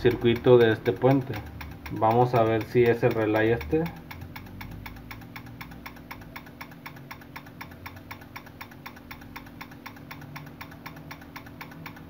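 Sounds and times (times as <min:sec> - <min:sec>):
relays clicking rapidly: 0:00.0 - 0:12.0
steady low hum: 0:00.0 - 0:12.0.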